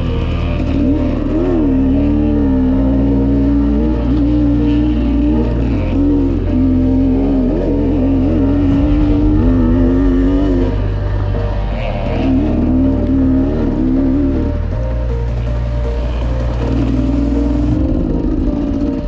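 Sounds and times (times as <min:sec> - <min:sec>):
background music: 0:00.0 - 0:19.0
dirt bike engine revving: 0:00.0 - 0:19.0.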